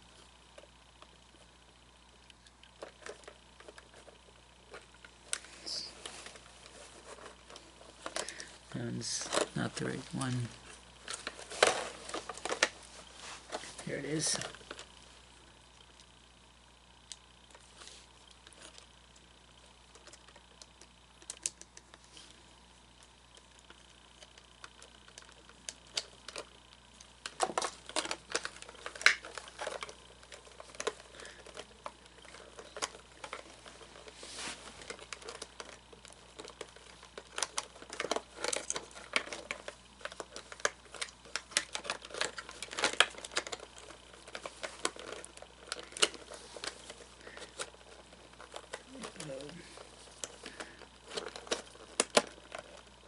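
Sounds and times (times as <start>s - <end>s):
rustling of parts and screws: 0.0s - 16.2s, 17.2s - 53.0s.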